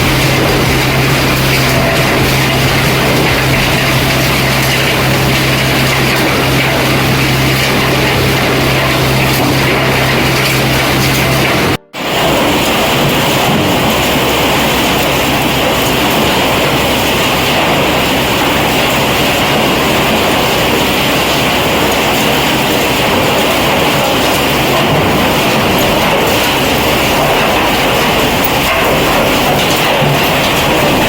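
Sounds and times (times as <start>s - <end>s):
wood-chip crusher grinding: 0.0s - 31.0s.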